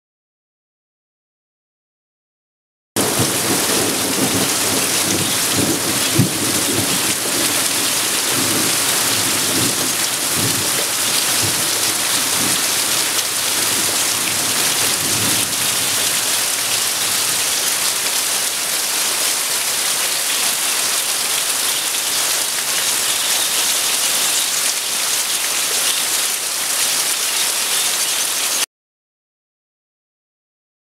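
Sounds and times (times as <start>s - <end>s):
heavy rain pouring: 3.0s - 28.7s
water streaming off a roof: 3.0s - 28.7s.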